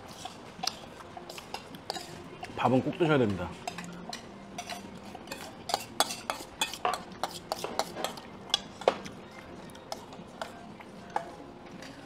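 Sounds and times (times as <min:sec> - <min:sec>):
utensils clinking on metal bowls: 0:00.1 - 0:12.0.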